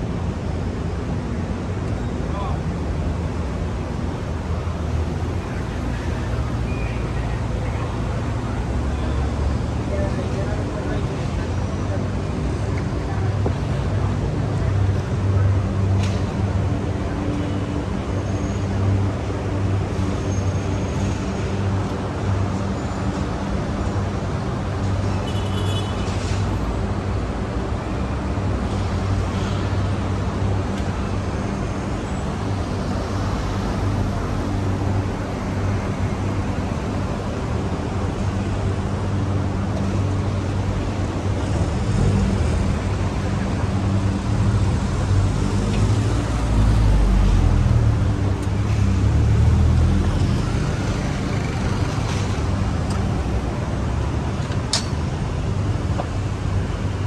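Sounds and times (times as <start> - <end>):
road traffic drone: 0.0 - 57.0.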